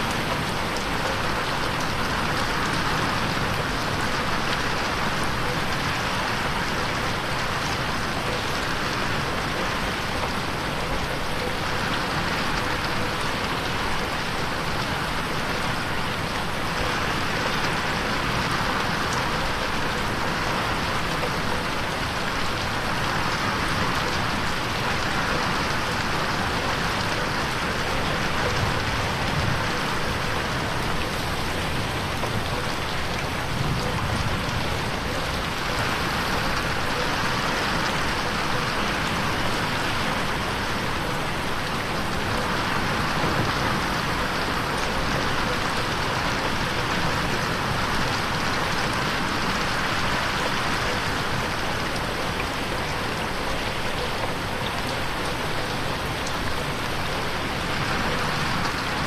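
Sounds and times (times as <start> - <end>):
rain on a window: 0.0 - 59.0.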